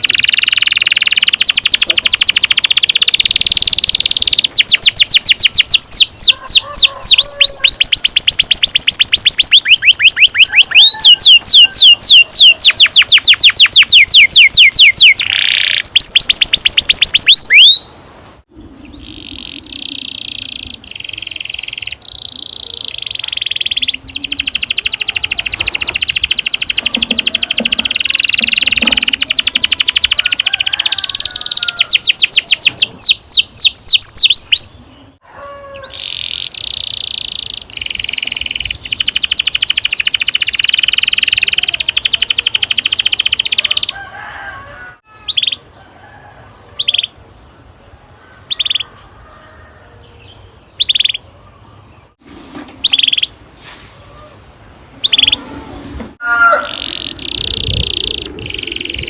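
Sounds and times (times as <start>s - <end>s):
canary singing trills: 0.0s - 17.9s, 18.6s - 44.0s, 45.1s - 45.8s, 46.5s - 49.0s, 50.0s - 52.2s, 52.8s - 53.4s, 55.0s - 55.6s, 56.2s - 59.0s.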